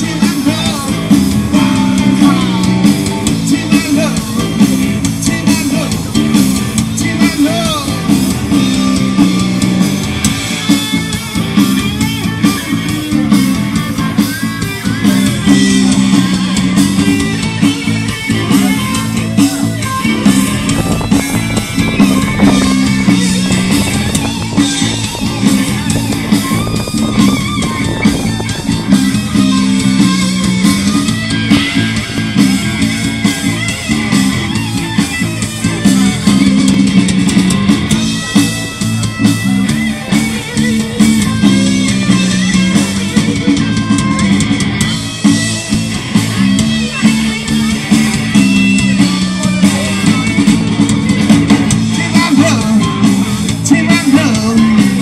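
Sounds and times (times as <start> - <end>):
loud rock band music: 0.0 - 55.0.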